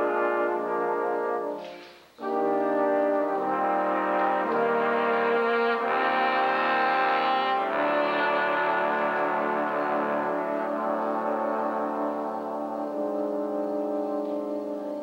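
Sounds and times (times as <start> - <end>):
brass quartet playing chords: 0.0 - 15.0.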